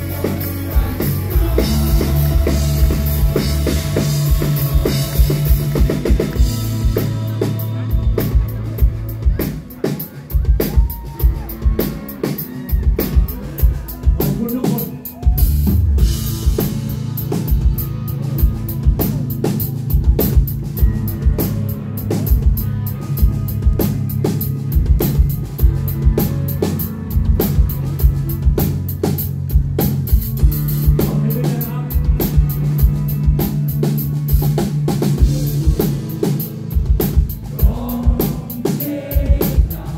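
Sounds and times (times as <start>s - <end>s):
drum kit beat: 0.0s - 39.9s
electric guitar: 0.0s - 39.9s
live rock band: 0.0s - 39.9s.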